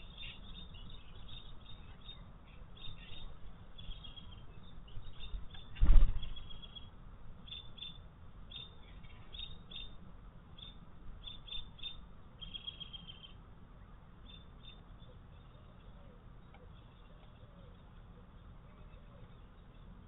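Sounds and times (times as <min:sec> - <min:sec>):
bird trill: 0:00.0 - 0:10.0, 0:10.6 - 0:13.4, 0:14.2 - 0:19.9
songbirds chirping: 0:00.0 - 0:20.0.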